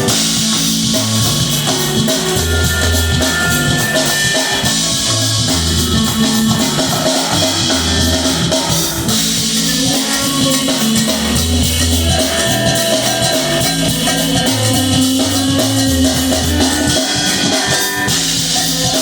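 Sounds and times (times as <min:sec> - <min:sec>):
drum kit and cymbals: 0:00.0 - 0:19.0
guitar: 0:00.0 - 0:19.0
held bass notes: 0:00.0 - 0:19.0
live rock band playing: 0:00.0 - 0:19.0.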